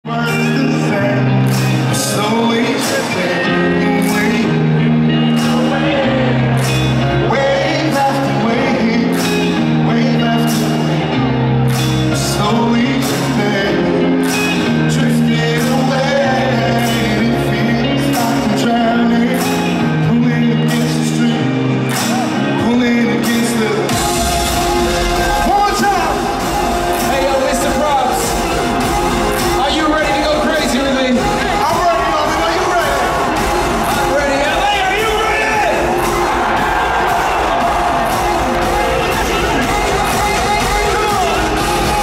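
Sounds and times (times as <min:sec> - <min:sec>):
man singing: 0:00.0 - 0:11.3, 0:12.1 - 0:42.0
bass line: 0:00.0 - 0:42.0
synth chords: 0:00.0 - 0:42.0.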